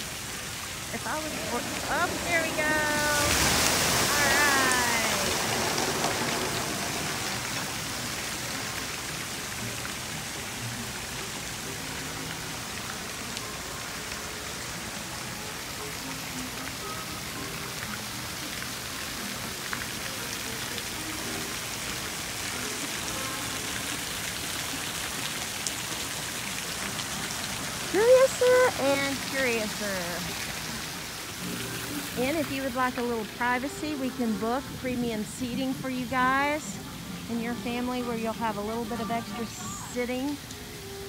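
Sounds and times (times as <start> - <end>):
water splashing on a wet deck: 0.0 - 41.0.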